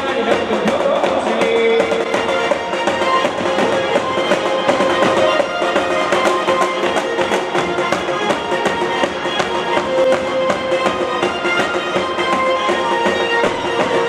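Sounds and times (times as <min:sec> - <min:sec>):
instrumental music with percussive beat: 0:00.0 - 0:14.0.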